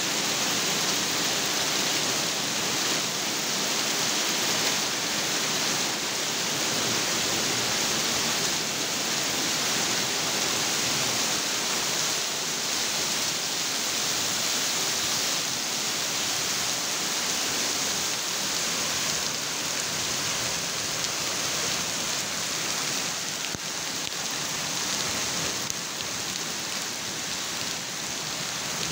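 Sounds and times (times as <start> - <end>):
hail and heavy rain on pavement: 0.0 - 28.9.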